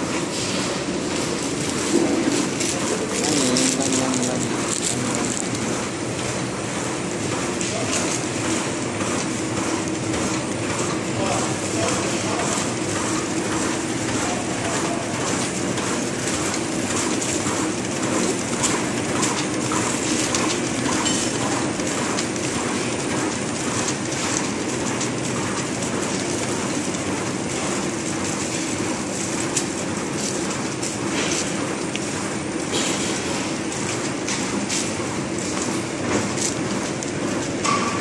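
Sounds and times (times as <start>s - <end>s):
sealing machine clattering: 0.7s - 6.2s, 6.9s - 38.0s.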